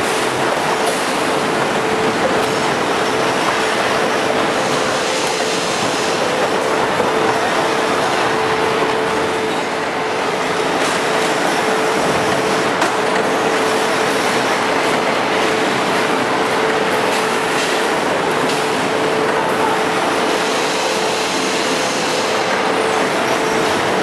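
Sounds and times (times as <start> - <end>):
mill machinery running: 0.0 - 24.0.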